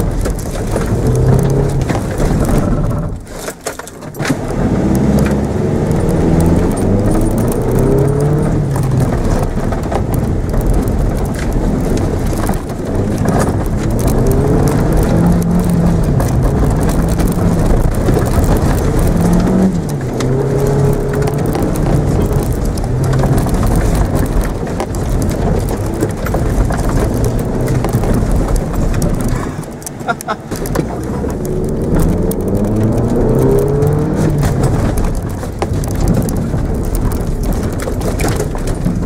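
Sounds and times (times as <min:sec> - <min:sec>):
car engine revving: 0:00.0 - 0:03.4, 0:04.2 - 0:39.0
steady rumble: 0:00.0 - 0:39.0.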